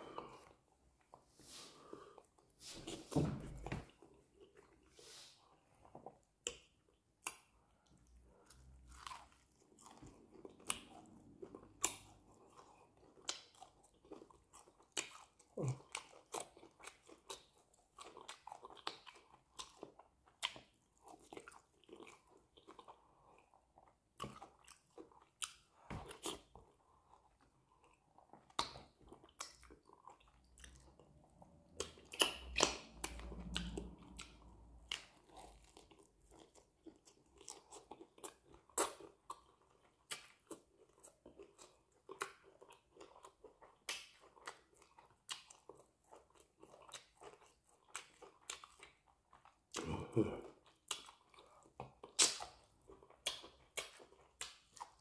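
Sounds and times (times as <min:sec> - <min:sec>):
wet chewing with crunches: 0:03.5 - 0:55.0.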